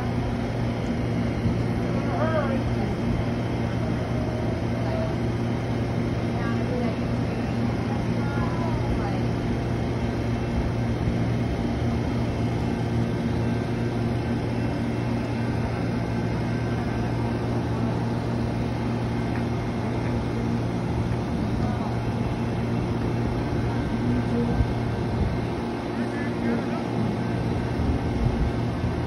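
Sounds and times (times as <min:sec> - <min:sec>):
train idling hum: 0:00.0 - 0:29.0.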